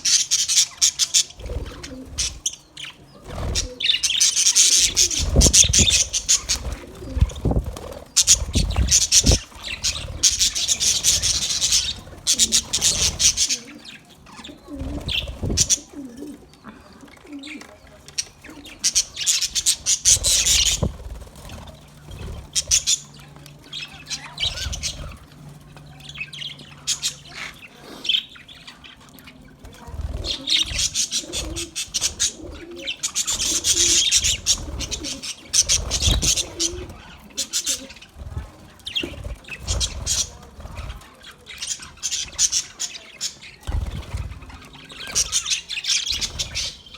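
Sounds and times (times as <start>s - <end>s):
budgerigars chattering and chirping: 0.0s - 46.9s.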